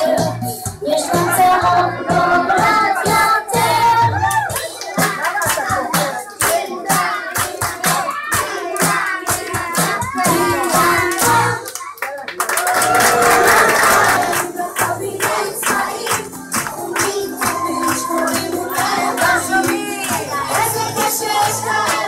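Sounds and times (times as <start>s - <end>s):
children's song with singing: 0.0s - 12.0s, 13.4s - 22.0s
hands clapping: 4.3s - 22.0s.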